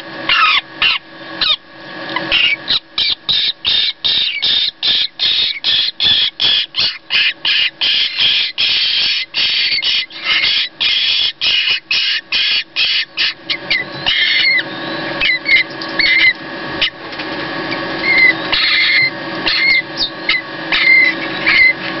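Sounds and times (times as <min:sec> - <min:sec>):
nestlings begging calls: 0:00.2 - 0:01.6, 0:02.2 - 0:21.9.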